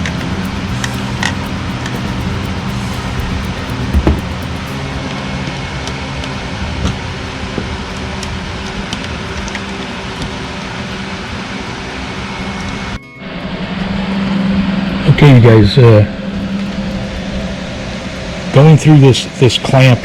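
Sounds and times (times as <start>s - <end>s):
engine hum: 0.0s - 20.0s.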